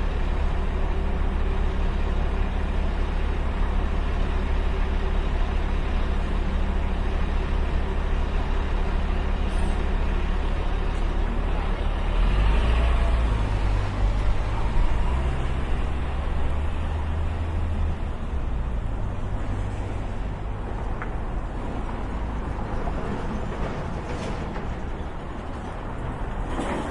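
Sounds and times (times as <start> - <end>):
city street traffic: 0.0 - 26.9
heavy vehicle engine rumble: 0.0 - 26.9.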